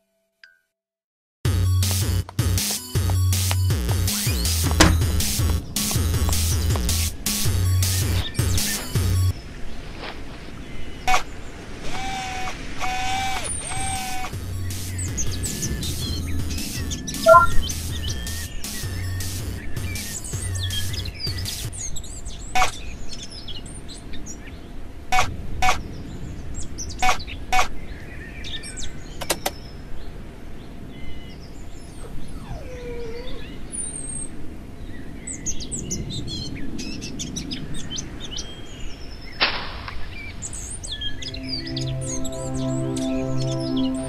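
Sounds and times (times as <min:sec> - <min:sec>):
soft outdoor background: 0:01.5 - 0:44.0
birds chirping: 0:02.6 - 0:24.8, 0:25.8 - 0:44.0.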